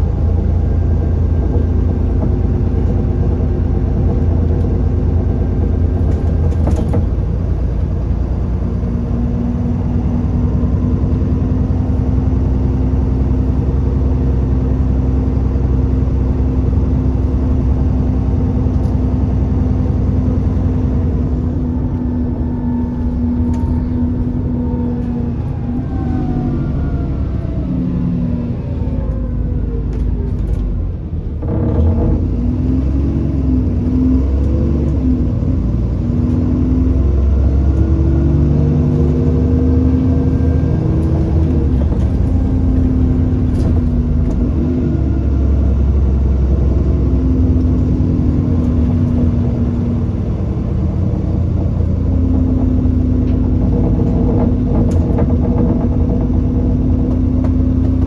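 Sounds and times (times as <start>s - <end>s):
bus engine and gearbox rumble: 0.0s - 58.0s.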